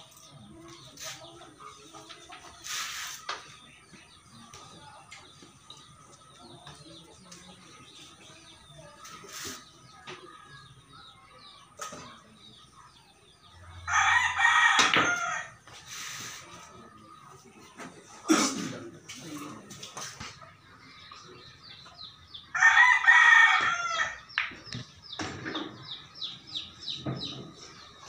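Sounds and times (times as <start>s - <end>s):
faint background noise: 0.0s - 28.0s.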